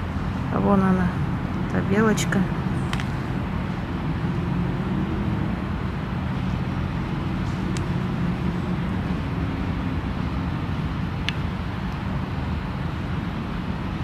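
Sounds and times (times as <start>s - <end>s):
distant road traffic rumble: 0.0s - 14.0s.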